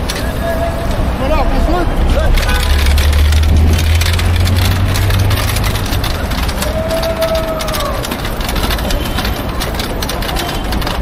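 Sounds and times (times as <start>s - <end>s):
bus engine rumbling: 0.0s - 11.0s
street traffic noise: 0.0s - 11.0s.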